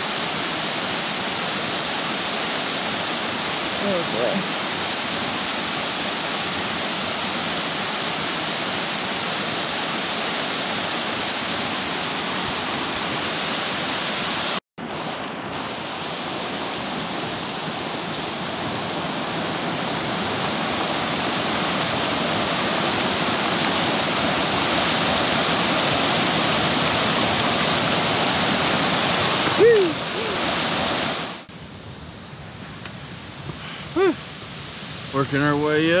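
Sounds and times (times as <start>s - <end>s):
creek rushing over rocks: 0.0s - 31.5s, 33.4s - 36.0s.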